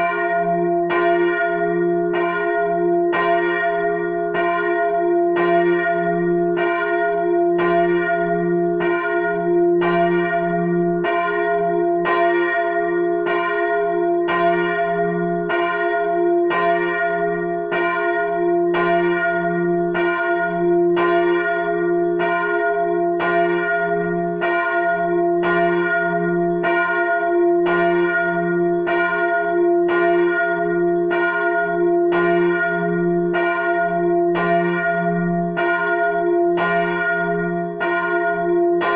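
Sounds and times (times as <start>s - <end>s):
church bell striking: 0.0s - 38.9s.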